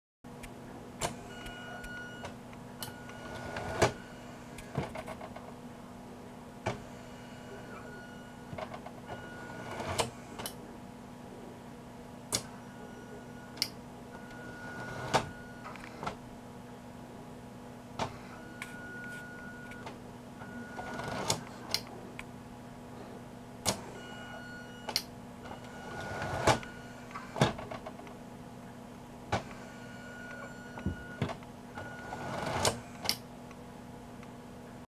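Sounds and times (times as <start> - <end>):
steady low hum: 0.3 - 34.9.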